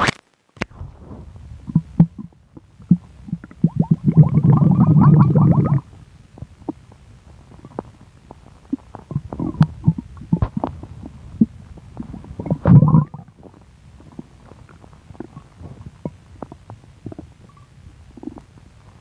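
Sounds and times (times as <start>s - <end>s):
stomach gurgling: 0.0s - 19.0s.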